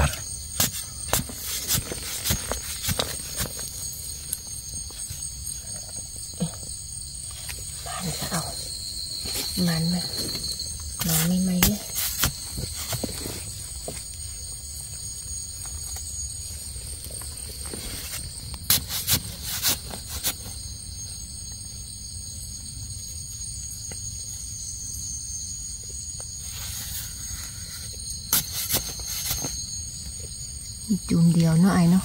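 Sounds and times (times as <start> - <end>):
insects chorus: 0.0 - 32.0.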